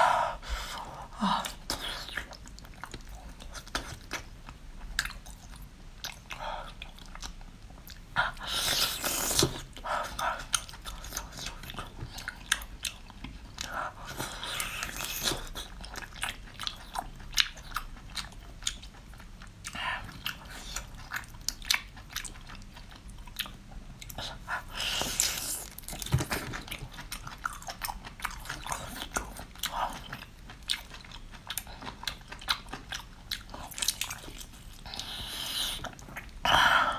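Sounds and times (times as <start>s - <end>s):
chewing crunchy food: 0.8s - 36.7s.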